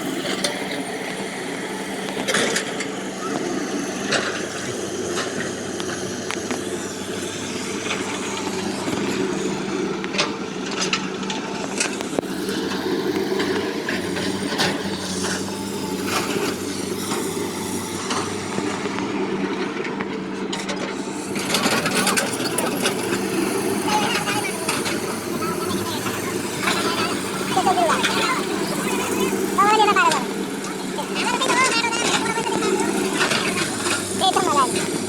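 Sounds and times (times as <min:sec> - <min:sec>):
construction machinery diesel engine: 0:00.0 - 0:35.0.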